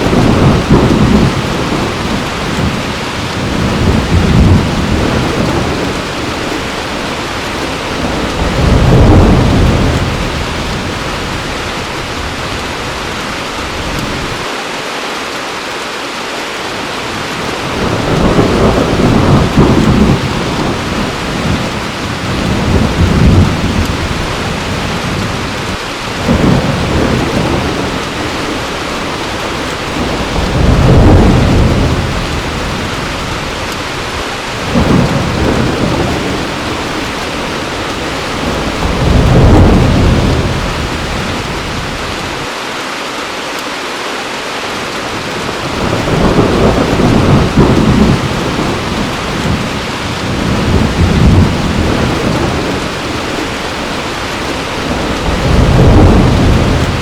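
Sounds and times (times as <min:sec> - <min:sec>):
thunder rumbling: 0:00.0 - 0:14.4, 0:17.1 - 0:42.5, 0:45.1 - 0:57.0
heavy rain: 0:00.0 - 0:57.0.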